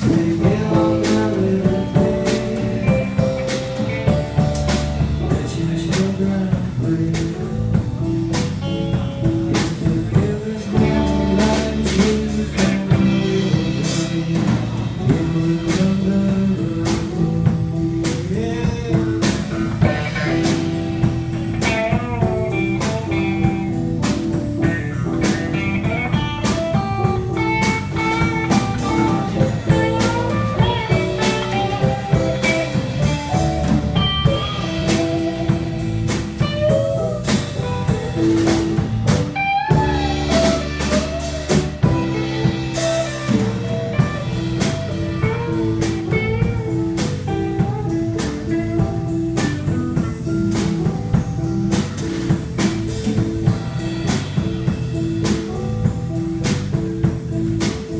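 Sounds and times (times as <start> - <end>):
drum kit: 0.0 - 57.9
electric guitar: 0.0 - 57.9
keyboards: 0.0 - 57.9.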